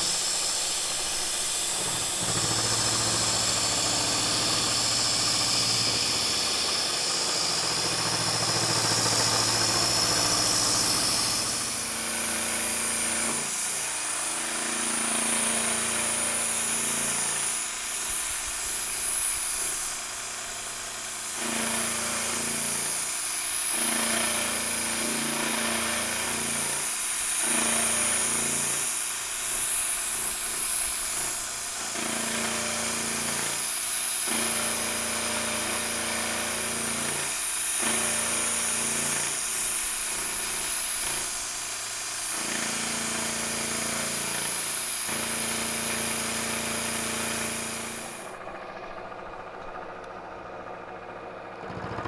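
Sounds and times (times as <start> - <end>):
milling machine humming: 0.0 - 52.0.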